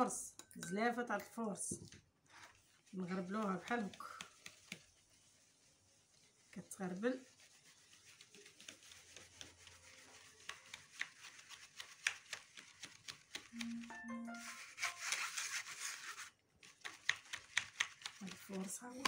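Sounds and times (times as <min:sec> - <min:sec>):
flour sifting through sieve: 0:02.3 - 0:19.0.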